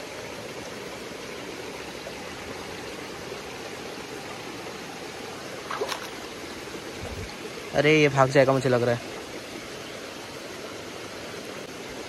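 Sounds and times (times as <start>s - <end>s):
stream water over pebbles: 0.0s - 12.0s.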